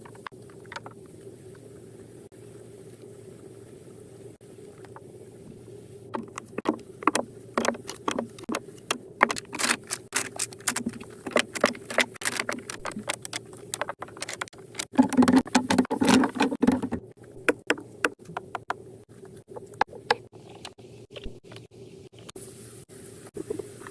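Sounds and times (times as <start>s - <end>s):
sharp clicks and knocks crackling: 0.0s - 1.6s, 4.8s - 22.4s.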